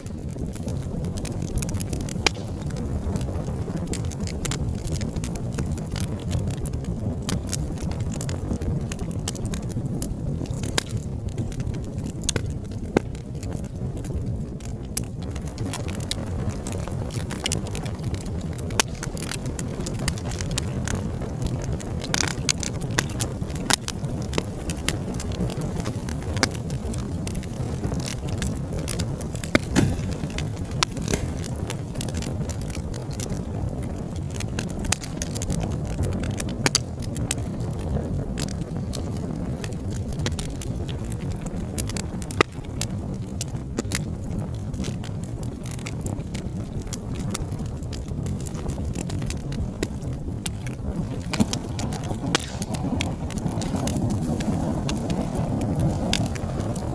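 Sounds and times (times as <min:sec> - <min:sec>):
low rumble of flames: 0:00.0 - 0:56.9
wood fire crackling and popping: 0:00.0 - 0:56.9.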